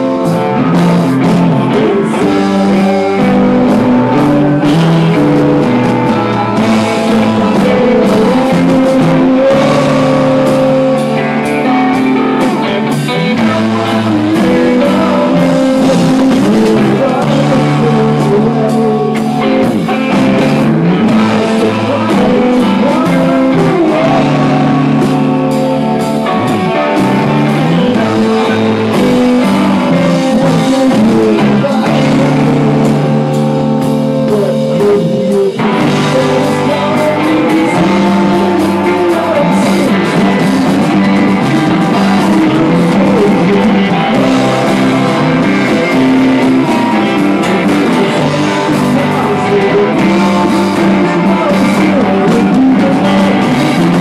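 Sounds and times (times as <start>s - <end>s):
drums: 0.0s - 54.0s
electric guitar: 0.0s - 54.0s.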